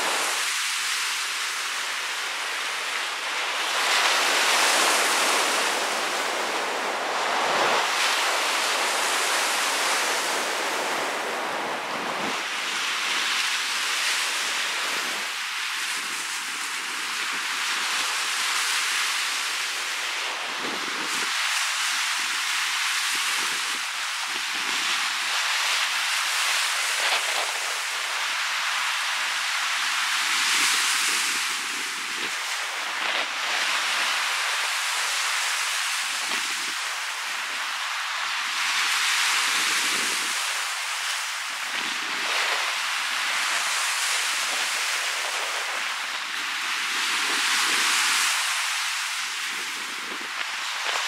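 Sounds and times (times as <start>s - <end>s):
surf washing up beach: 0.0s - 51.0s
strong wind: 2.2s - 28.8s, 29.4s - 51.0s.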